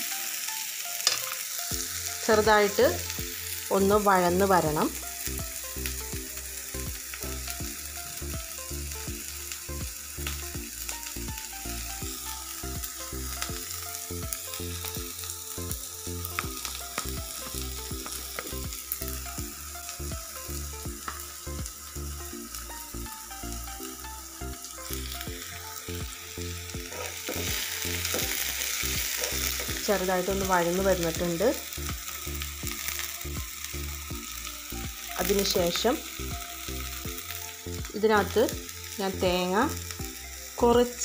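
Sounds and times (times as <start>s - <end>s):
vegetables sizzling in a pan: 0.0s - 41.0s.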